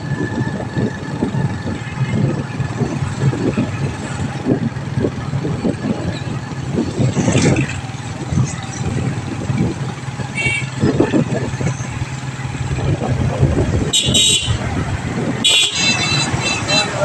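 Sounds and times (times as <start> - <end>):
motorcycles passing: 0.0 - 17.0
vehicle engine running: 0.0 - 17.0
wind buffeting microphone: 0.0 - 17.0.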